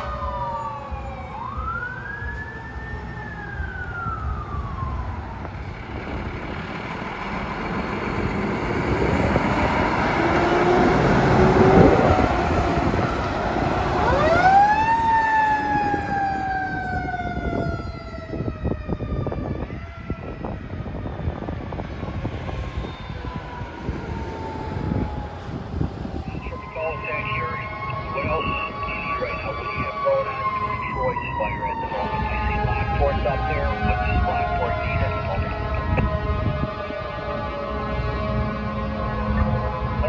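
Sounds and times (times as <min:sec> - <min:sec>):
fire truck sirens wailing: 0:00.0 - 0:40.0
truck engine and road noise: 0:00.0 - 0:40.0.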